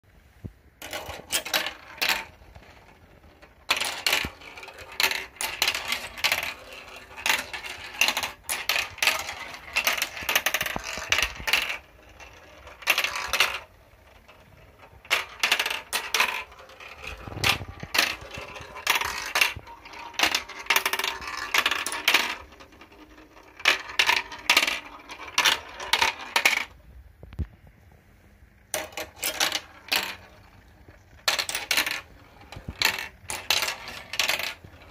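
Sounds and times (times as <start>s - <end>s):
balls clattering down marble run: 0.8s - 26.8s, 28.7s - 34.9s.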